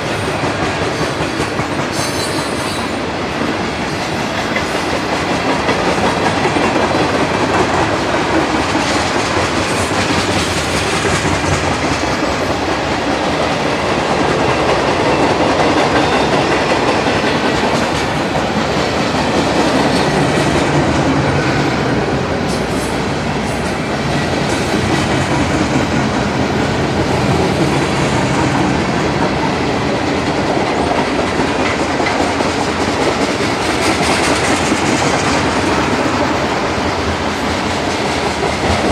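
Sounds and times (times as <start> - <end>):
freight train cars rolling past: 0.0 - 38.9
steel wheels clacking over rail joints: 0.0 - 38.9.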